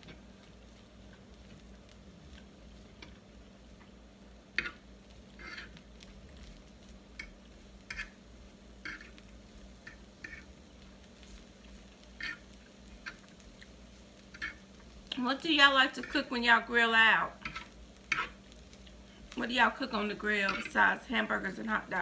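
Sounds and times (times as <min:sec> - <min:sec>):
chicken crackling on a grill: 0:00.0 - 0:22.0
low steady hum: 0:00.0 - 0:22.0.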